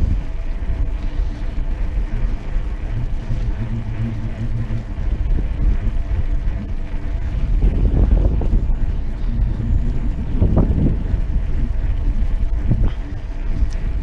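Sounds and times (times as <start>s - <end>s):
low hum: 0.0s - 14.0s
wind buffeting microphone: 0.0s - 14.0s.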